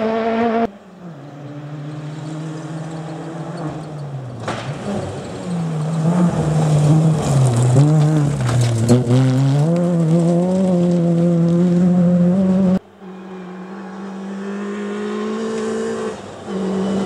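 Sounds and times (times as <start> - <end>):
rally car engine: 0.0 - 17.0
gravel crackling under tyres: 0.7 - 17.0.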